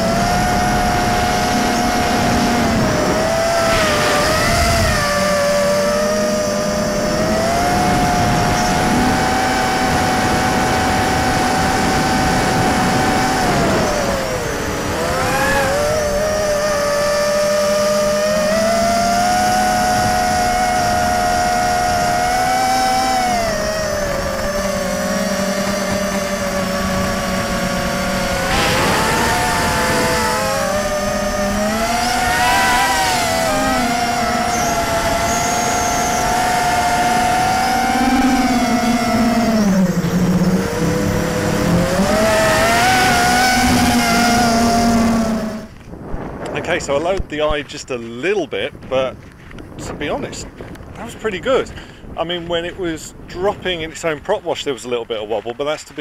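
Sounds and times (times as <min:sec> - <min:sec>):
drone motors whining: 0:00.0 - 0:47.5.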